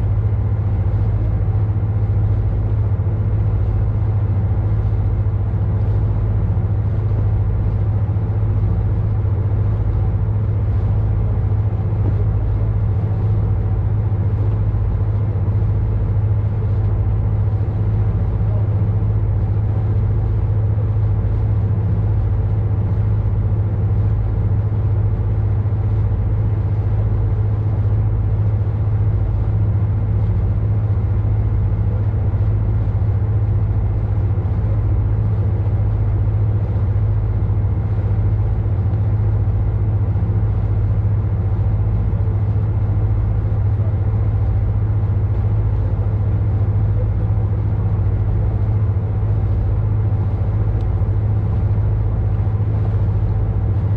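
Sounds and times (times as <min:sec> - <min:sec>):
boat engine humming: 0:00.0 - 0:53.9.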